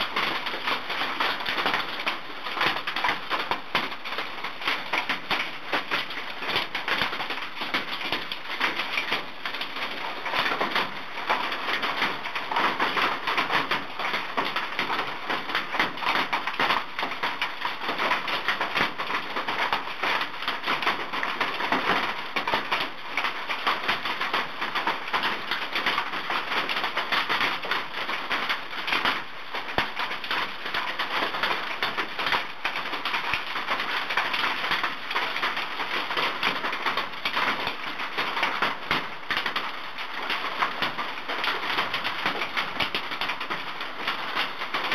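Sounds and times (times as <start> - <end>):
hail clattering on roof: 0.0 - 44.9.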